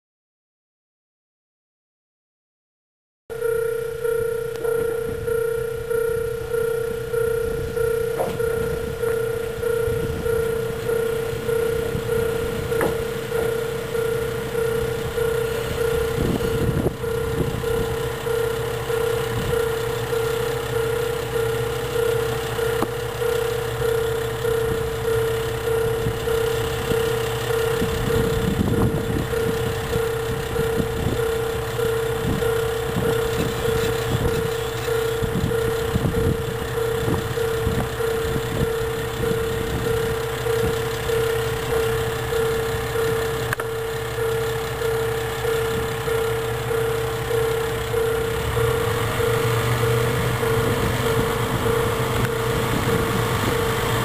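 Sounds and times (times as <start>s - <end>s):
diesel railcar engine: 3.3s - 54.0s
level crossing warning bell: 3.3s - 54.0s.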